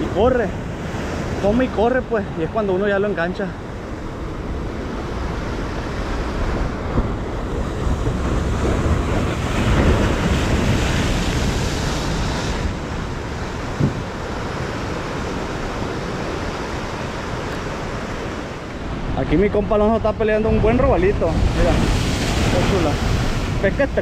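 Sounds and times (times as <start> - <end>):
ocean surf against rocks: 0.0 - 24.0
wind buffeting microphone: 3.6 - 24.0.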